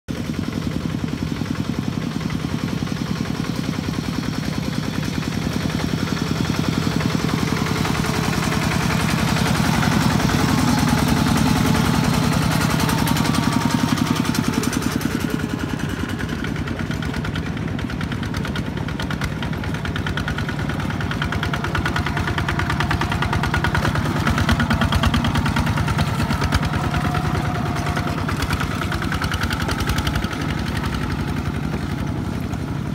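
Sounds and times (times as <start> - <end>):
diesel tractor engine running: 0.1 - 32.9.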